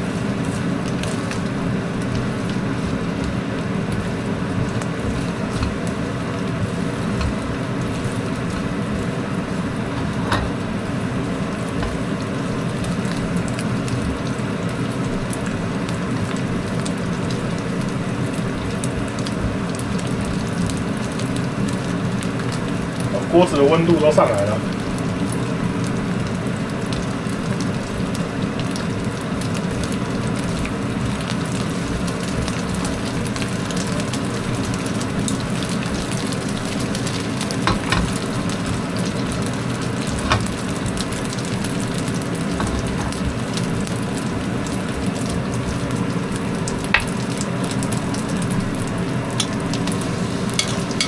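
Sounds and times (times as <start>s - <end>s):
range hood fan hum: 0.0s - 51.0s
sausage sizzling in hot oil: 0.0s - 51.0s.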